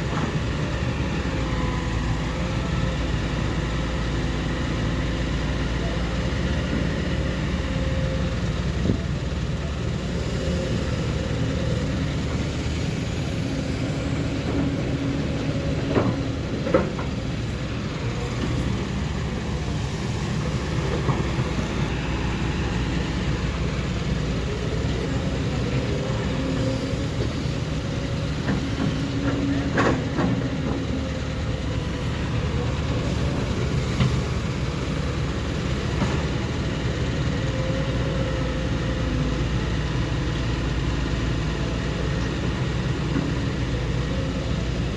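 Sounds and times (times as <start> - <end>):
heavy diesel engines running: 0.0 - 44.9.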